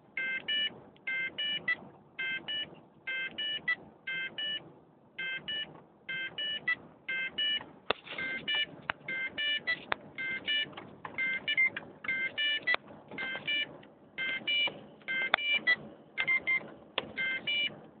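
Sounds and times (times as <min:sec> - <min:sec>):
car warning chime double beeps: 0:00.2 - 0:04.6, 0:05.2 - 0:07.6, 0:08.2 - 0:17.8.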